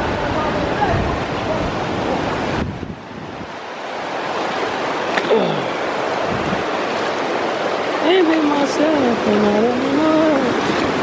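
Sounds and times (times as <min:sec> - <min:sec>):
river water running over stones: 0:00.0 - 0:11.0.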